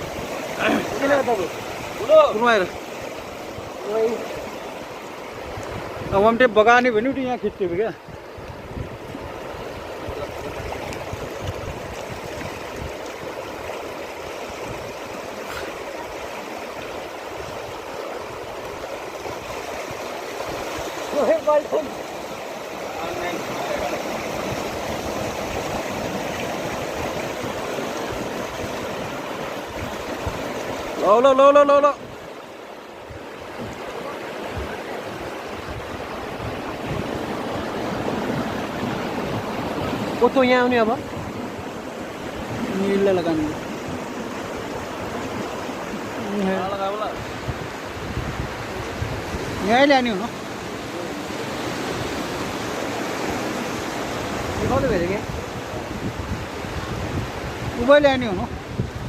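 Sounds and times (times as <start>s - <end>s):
flowing river water: 0.0s - 59.0s
wind buffeting microphone: 0.0s - 59.0s.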